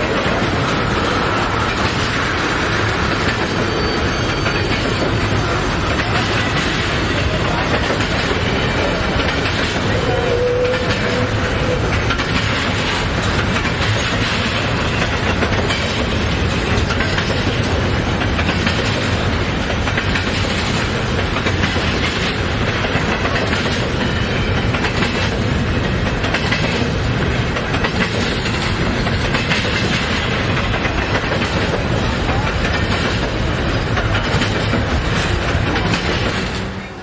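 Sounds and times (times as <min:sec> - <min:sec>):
clickety-clack over rail joints: 0:00.0 - 0:37.0
steel wheels rumbling on rail: 0:00.0 - 0:37.0.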